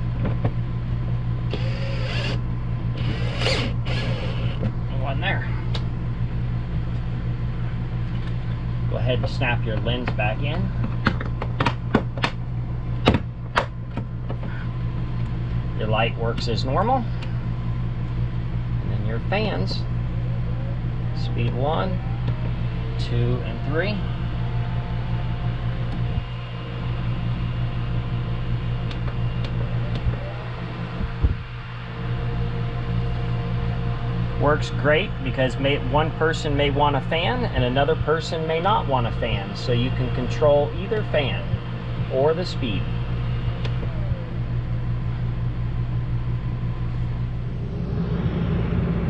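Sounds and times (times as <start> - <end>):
ceiling fan humming: 0.0 - 49.0.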